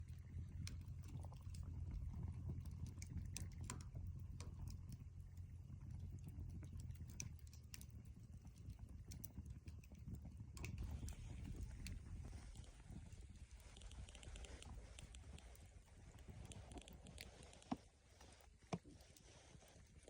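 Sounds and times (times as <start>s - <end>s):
low steady rumble: 0.0s - 20.0s
campfire pops and snaps: 0.3s - 17.3s.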